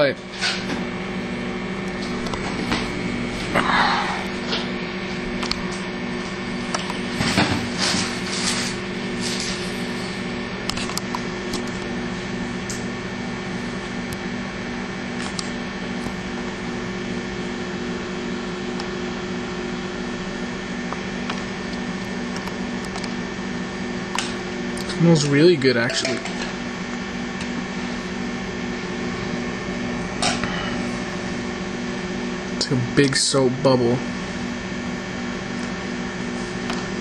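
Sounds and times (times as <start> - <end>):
microwave oven humming: 0.0 - 37.0.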